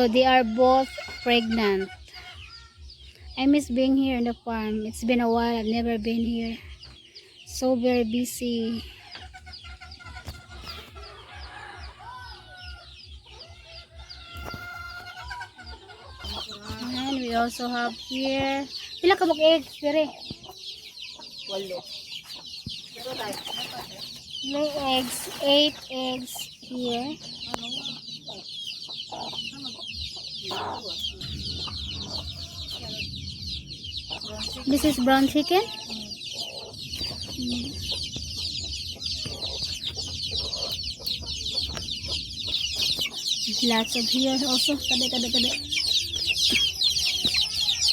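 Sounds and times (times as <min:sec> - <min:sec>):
chickens clucking: 0:00.0 - 0:47.9
chicks peeping: 0:00.0 - 0:47.9.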